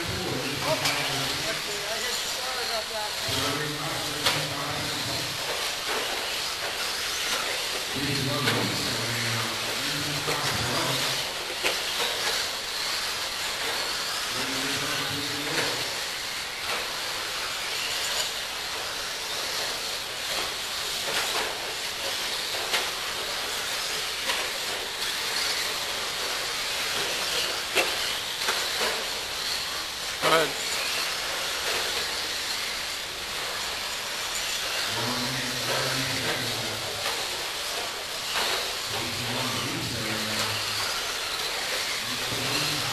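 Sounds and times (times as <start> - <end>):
rc truck motors whining: 0.0 - 42.9.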